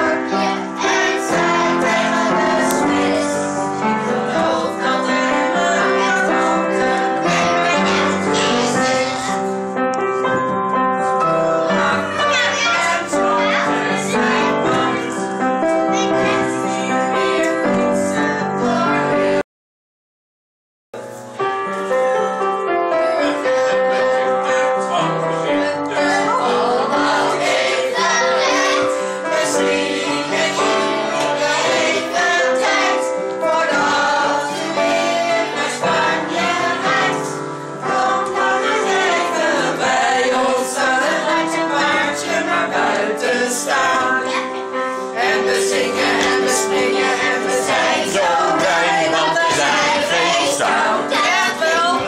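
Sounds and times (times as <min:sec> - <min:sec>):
people singing together: 0:00.0 - 0:09.6, 0:11.2 - 0:19.4, 0:22.9 - 0:52.0
music: 0:00.0 - 0:19.4, 0:21.0 - 0:52.0.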